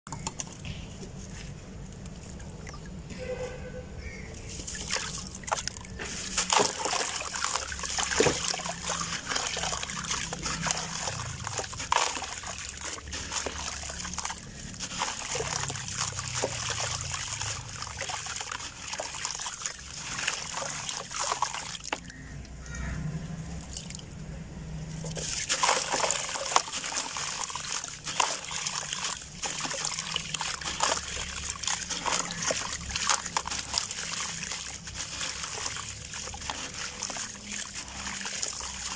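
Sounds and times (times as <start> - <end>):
sand trickling into water: 4.0 - 22.9, 24.9 - 38.9.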